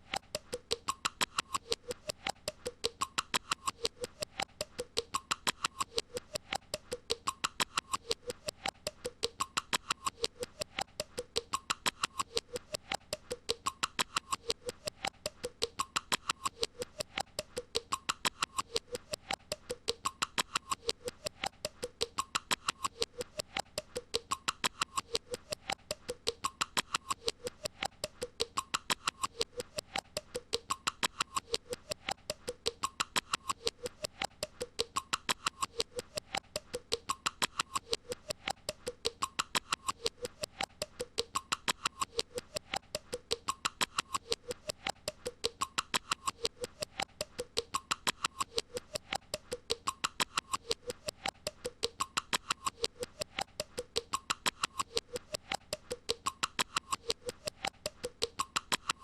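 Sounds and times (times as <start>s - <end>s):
rapid clicking with squeaky tone: 0.0s - 59.0s.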